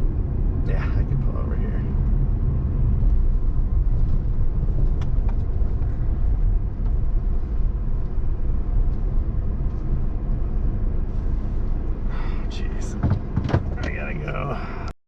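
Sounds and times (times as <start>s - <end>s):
diesel vehicle rumble: 0.0s - 15.0s.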